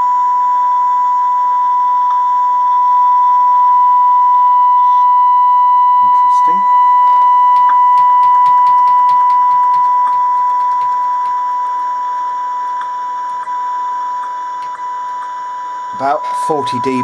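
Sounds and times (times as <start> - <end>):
radio test tone: 1.3 - 17.0.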